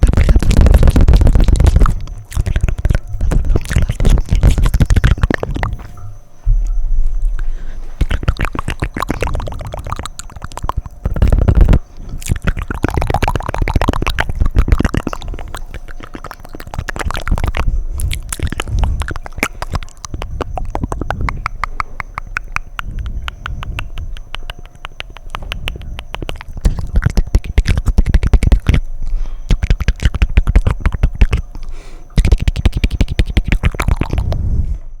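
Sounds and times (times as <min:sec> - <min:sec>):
wet mouth clicks and smacks: 0:00.0 - 0:06.0, 0:06.6 - 0:34.4.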